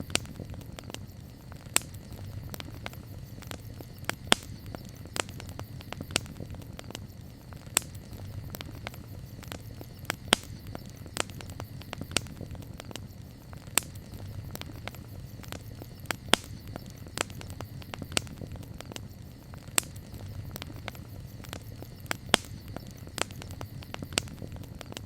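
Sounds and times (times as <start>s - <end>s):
campfire crackling: 0.0s - 25.0s
sharp snaps and pops of fire: 0.0s - 25.0s.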